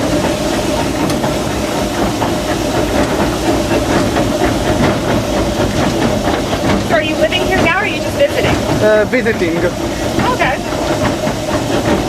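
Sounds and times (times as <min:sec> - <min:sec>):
locomotive running noise: 0:00.0 - 0:12.0
steam hissing: 0:00.0 - 0:12.0.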